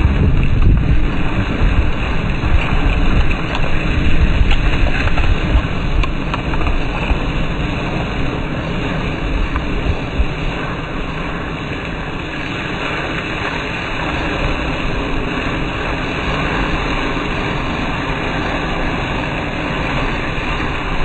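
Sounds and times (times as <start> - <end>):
fire crackling: 0.0 - 21.0
fire roaring: 0.0 - 21.0
wind buffeting microphone: 0.0 - 21.0.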